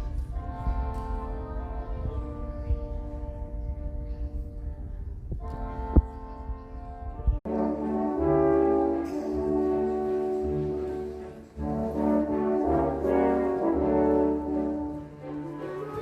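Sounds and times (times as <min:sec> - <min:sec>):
orchestral music with brass chords: 0:00.0 - 0:16.0.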